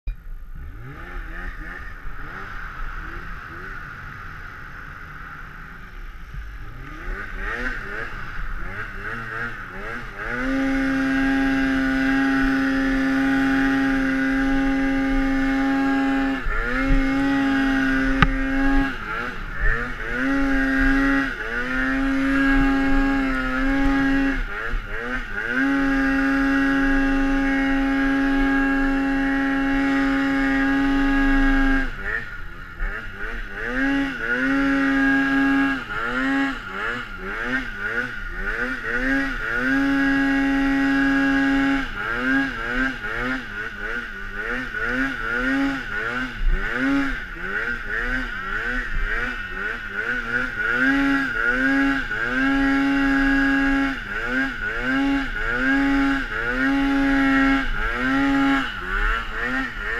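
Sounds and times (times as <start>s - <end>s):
snowmobile engine revving: 0.3s - 59.9s
hiss of track and snow: 0.4s - 59.9s.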